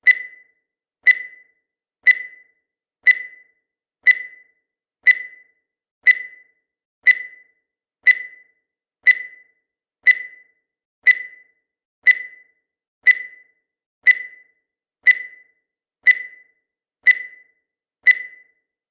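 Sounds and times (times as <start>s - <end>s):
countdown timer beeping: 0.0s - 18.6s.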